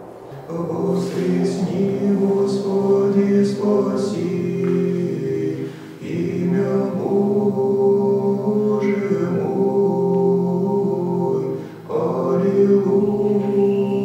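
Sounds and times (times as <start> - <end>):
men's choir chanting: 0.0 - 14.0.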